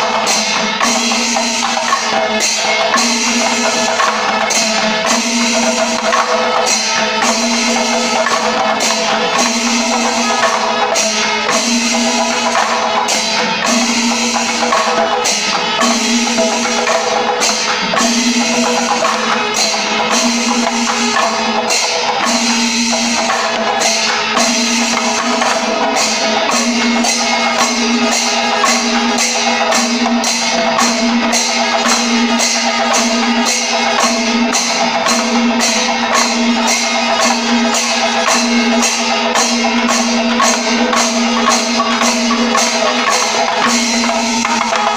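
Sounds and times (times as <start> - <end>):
clashing cymbals: 0.0 - 44.9
hand drums beating: 0.0 - 44.9.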